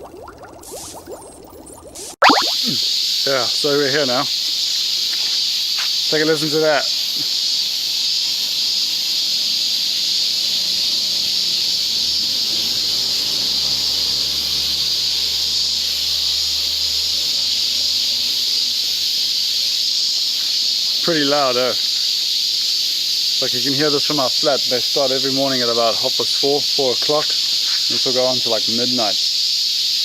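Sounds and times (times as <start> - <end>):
cicadas calling: 0.0 - 30.0.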